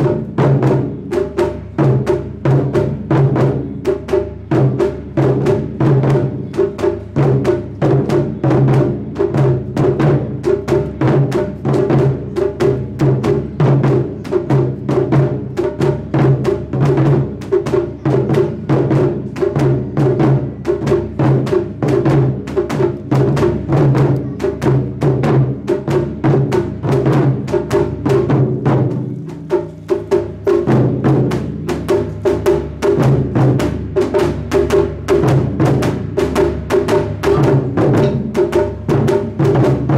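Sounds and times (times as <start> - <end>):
taiko drums beating: 0.0 - 39.9.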